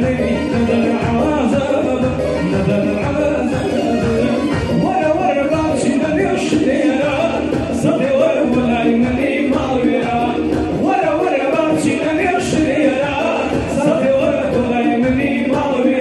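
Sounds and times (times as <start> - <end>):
music with singing voice: 0.0 - 16.0.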